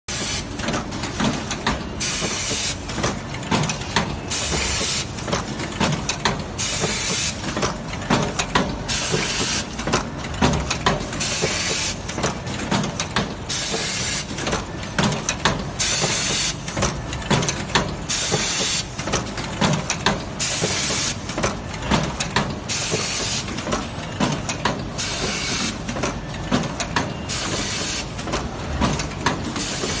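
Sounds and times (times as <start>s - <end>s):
machine clicking and clacking: 0.1s - 30.0s.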